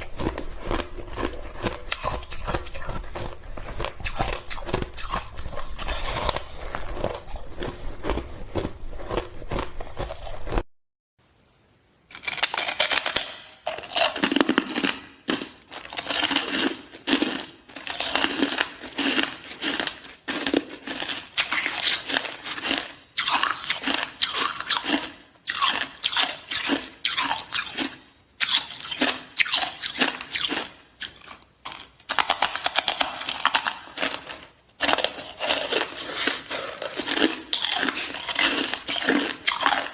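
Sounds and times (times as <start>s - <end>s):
ice being chewed and crunched: 0.0s - 10.6s, 12.1s - 39.9s.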